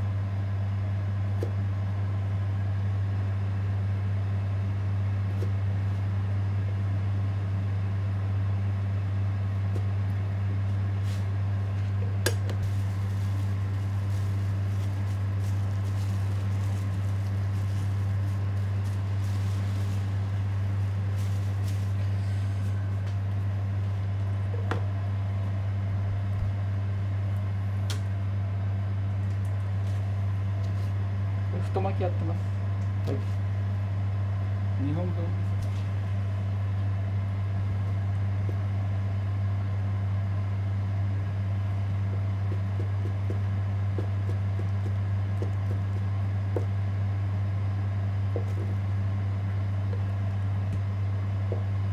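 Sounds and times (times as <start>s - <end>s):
low mechanical hum: 0.0s - 51.9s.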